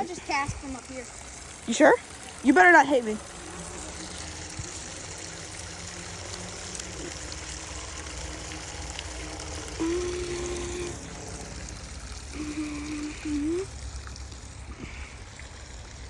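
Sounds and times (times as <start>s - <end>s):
creek water running: 0.0s - 16.0s
steady humming tone: 0.0s - 16.0s.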